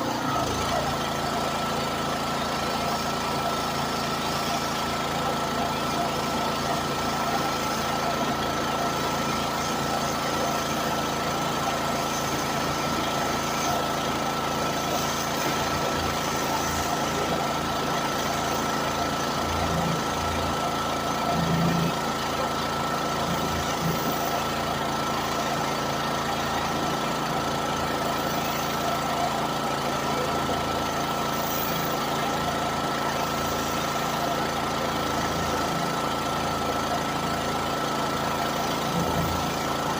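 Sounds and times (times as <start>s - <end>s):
engine idling with high whine: 0.0s - 39.9s.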